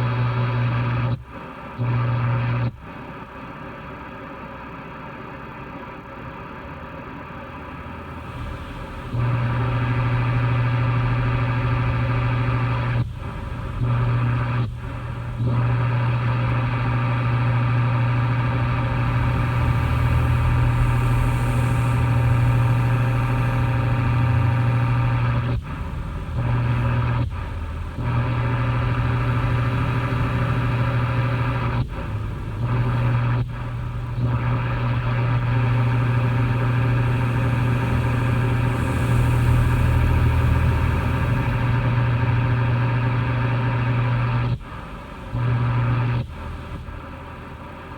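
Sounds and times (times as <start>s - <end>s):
machine droning and humming: 0.0s - 47.9s.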